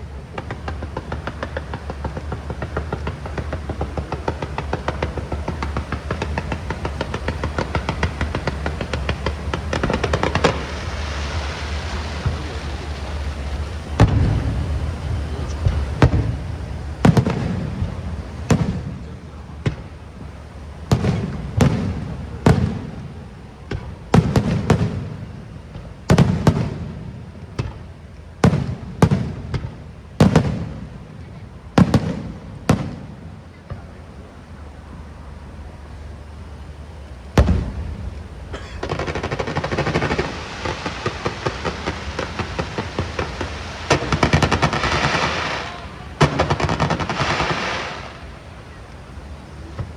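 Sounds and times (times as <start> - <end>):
fireworks bursting: 0.0 - 49.9
steady noise: 0.0 - 49.9.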